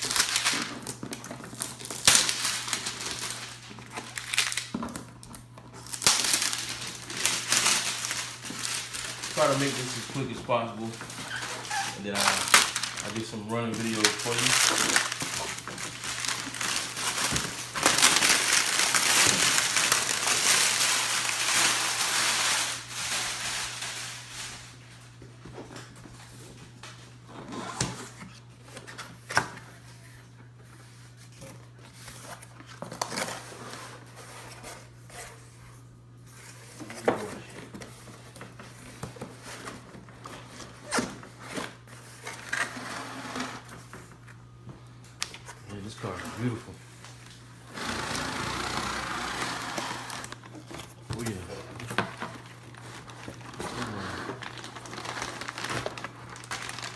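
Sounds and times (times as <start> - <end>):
packaging rustling and crinkling: 0.0 - 56.9.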